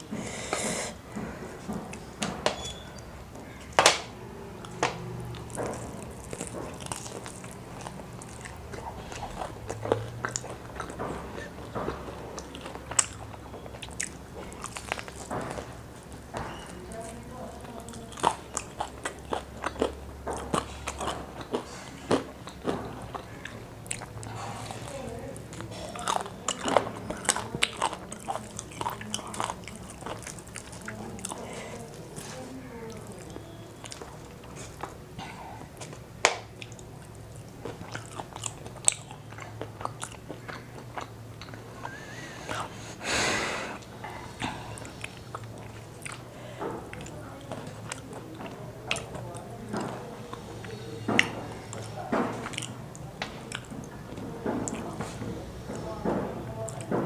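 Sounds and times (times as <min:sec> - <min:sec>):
biting and chewing crispy food: 0:00.0 - 0:57.0
crunching fried chicken: 0:02.8 - 0:42.7, 0:43.8 - 0:57.0.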